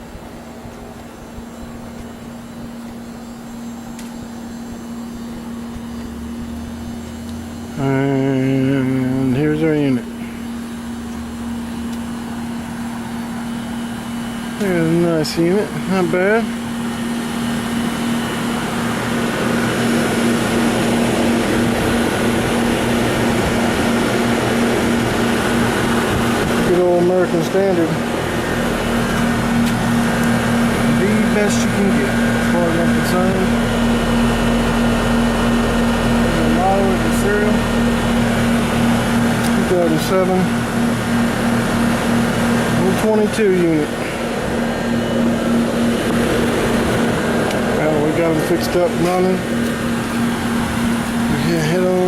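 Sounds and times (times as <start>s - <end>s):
air conditioner unit humming: 0.0s - 52.0s.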